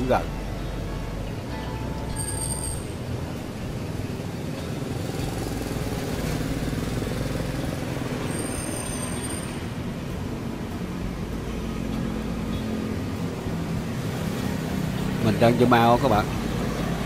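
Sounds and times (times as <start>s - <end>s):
traffic hum: 0.0s - 17.0s
vehicle passing by: 2.4s - 17.0s.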